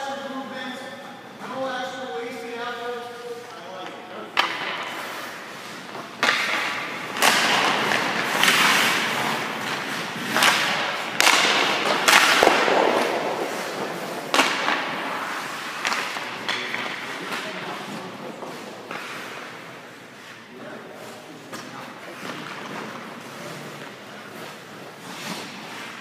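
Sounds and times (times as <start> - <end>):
skate blades scraping ice: 4.4 - 26.0.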